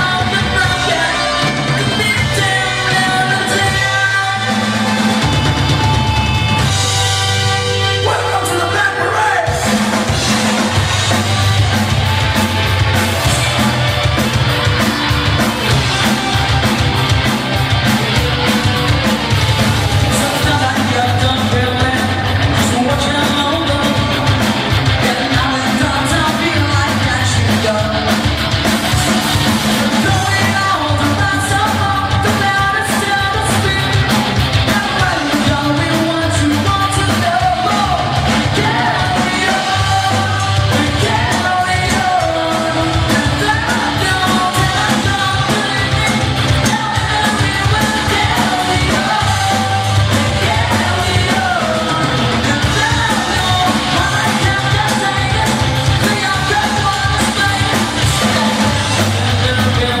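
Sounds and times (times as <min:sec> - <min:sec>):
male lead vocal: 0:00.0 - 0:12.0, 0:19.6 - 1:00.0
bass guitar: 0:00.0 - 1:00.0
drums: 0:00.0 - 1:00.0
electric guitar: 0:00.0 - 1:00.0
keyboards: 0:00.0 - 1:00.0.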